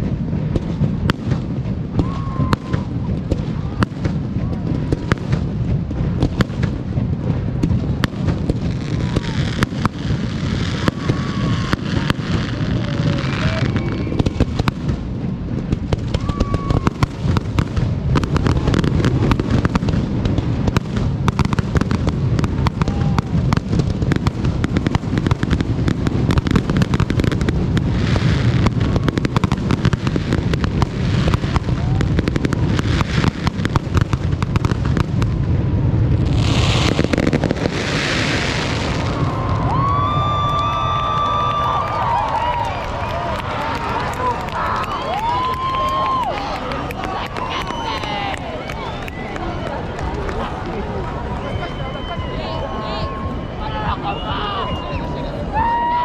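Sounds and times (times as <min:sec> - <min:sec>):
fireworks bangs and pops: 0:00.0 - 0:52.2
dense fireworks crackling: 0:00.0 - 0:56.0.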